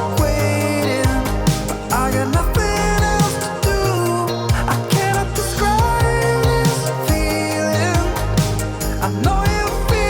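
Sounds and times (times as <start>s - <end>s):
upbeat pop soul music: 0.0s - 10.0s.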